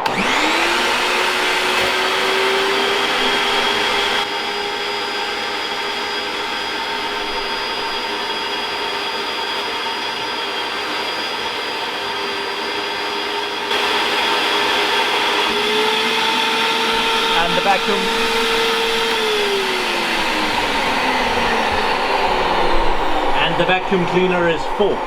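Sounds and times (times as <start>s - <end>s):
wet vacuum cleaner running: 0.0s - 25.0s.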